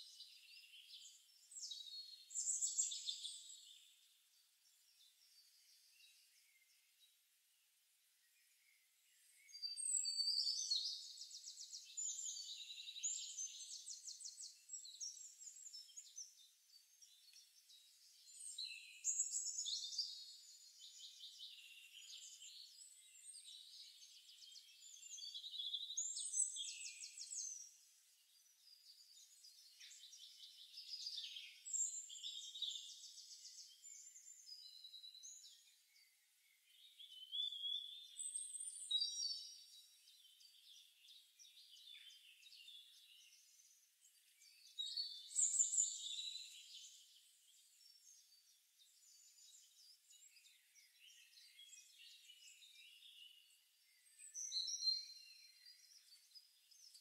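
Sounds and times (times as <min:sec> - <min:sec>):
soft bird chirps: 0:00.0 - 0:57.0.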